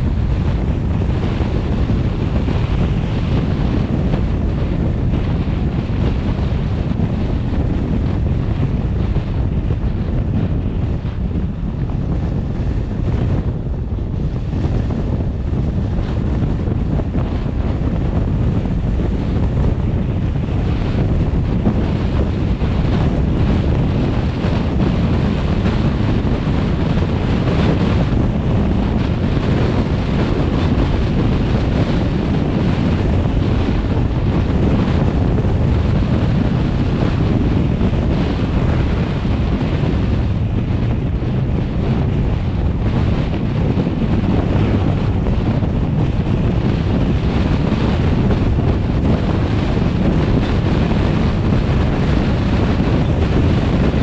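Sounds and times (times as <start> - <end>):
road rumble: 0.0 - 54.0
wind rushing over microphone: 0.0 - 54.0.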